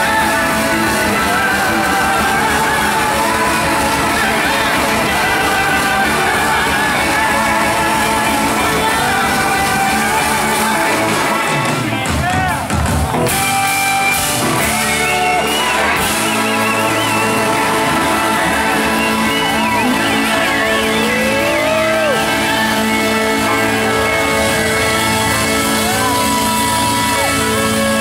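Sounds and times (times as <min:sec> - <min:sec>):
gliding lead guitar line: 0:00.0 - 0:28.0
live rock band playing: 0:00.0 - 0:28.0.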